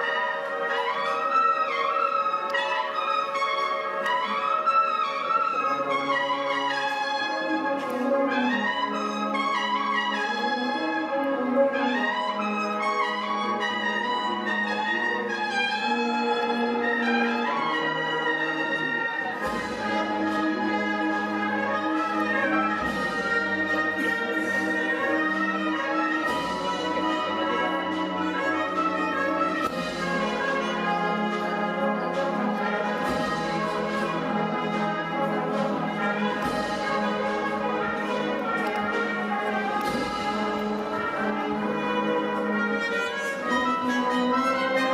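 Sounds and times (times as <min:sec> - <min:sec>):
brass band playing slow march: 0:00.0 - 0:44.9.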